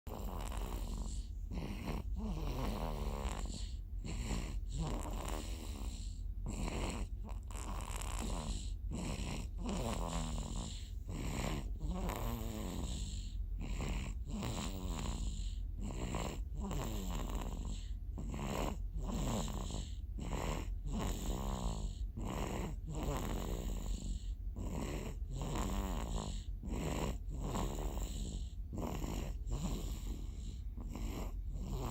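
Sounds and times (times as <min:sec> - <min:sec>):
person snoring: 0:00.1 - 0:31.9.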